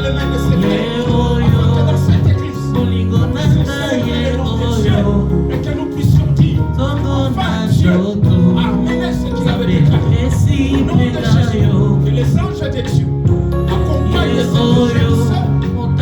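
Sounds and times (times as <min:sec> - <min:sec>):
instrumental accompaniment: 0:00.0 - 0:16.0
voices singing: 0:00.0 - 0:16.0.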